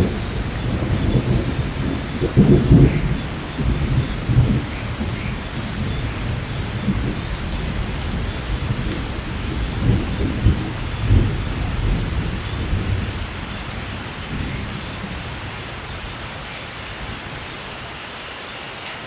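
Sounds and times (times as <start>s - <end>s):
thunder rumbling: 0.0s - 17.9s
steady rainfall: 0.0s - 19.0s.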